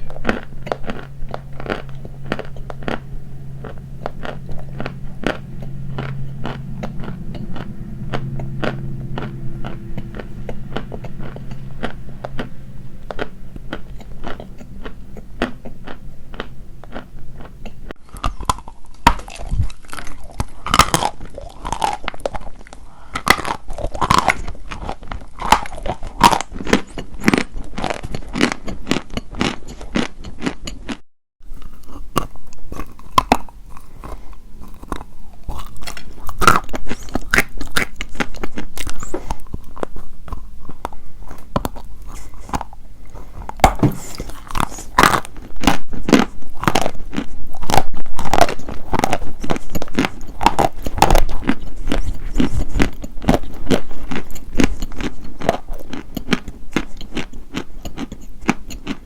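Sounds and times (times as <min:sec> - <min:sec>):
chalk being chewed crunching: 0:00.0 - 0:59.0.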